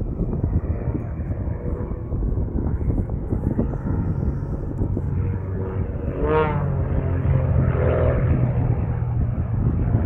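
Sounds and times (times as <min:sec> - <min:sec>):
propeller aircraft engine: 0:00.0 - 0:10.0.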